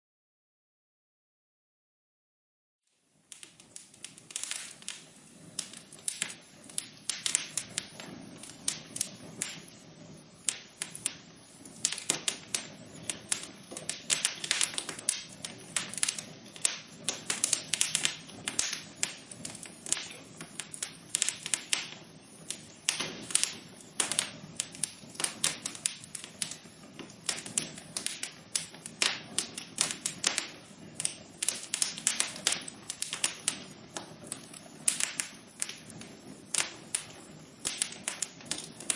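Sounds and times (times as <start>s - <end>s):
soft hiss of burning: 2.9s - 38.9s
wood fire popping and snapping: 3.1s - 38.9s.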